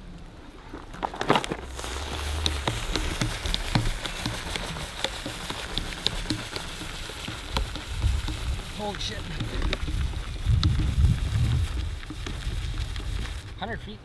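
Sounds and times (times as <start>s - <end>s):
crackles: 0.0s - 14.0s
water pattering and splashing: 0.4s - 14.0s.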